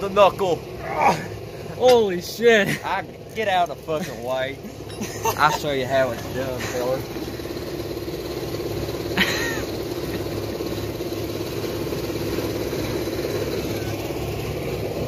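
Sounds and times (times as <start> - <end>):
mechanical drone with fine flutter: 0.0 - 15.0.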